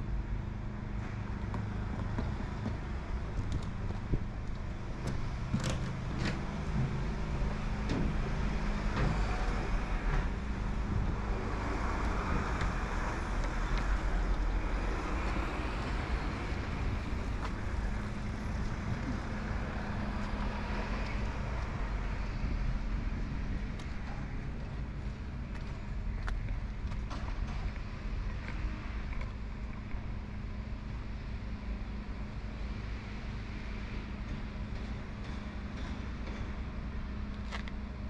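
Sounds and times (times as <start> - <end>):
low engine hum: 0.0 - 38.0
cars passing: 0.1 - 38.0.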